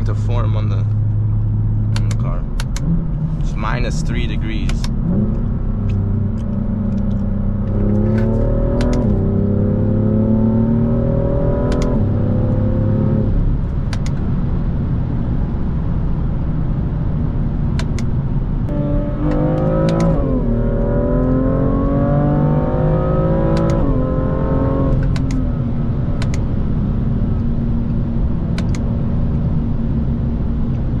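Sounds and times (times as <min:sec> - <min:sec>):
car engine accelerating through gears: 0:00.0 - 0:31.0.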